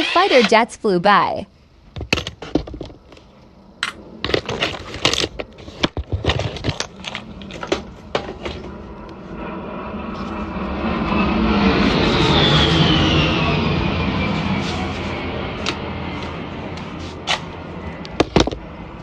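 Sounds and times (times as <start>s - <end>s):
fighter jet approaching: 3.1s - 5.9s, 6.5s - 19.0s.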